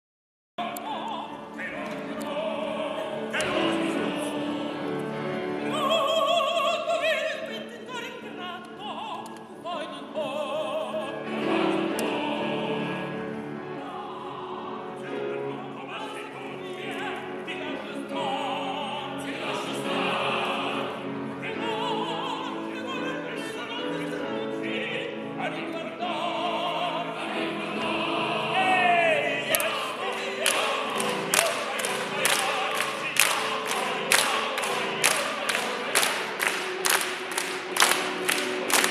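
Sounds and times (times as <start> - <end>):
orchestra playing: 0.6 - 9.0, 9.7 - 38.9
operatic singing: 0.6 - 38.9.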